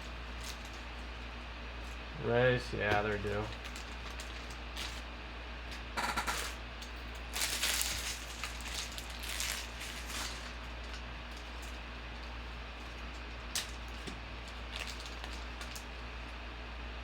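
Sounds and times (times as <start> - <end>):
crackling of foil wrappers and cards: 0.0 - 16.5
low electrical hum: 0.0 - 17.0.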